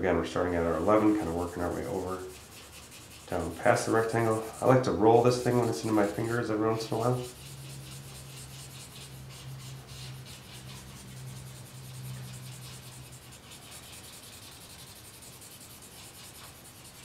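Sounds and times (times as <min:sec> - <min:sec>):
steady low hum: 0:00.0 - 0:17.0
charcoal rubbing on paper: 0:00.4 - 0:17.0.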